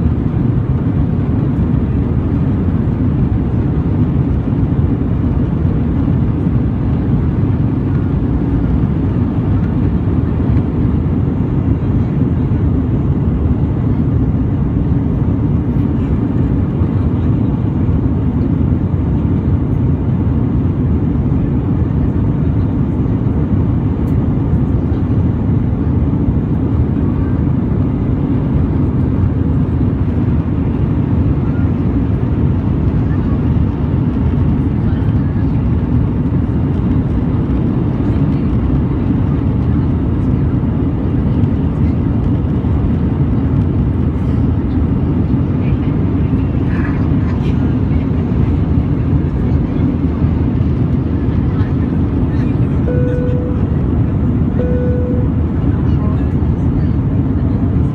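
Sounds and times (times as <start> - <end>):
airplane cabin rumble: 0.0 - 57.9.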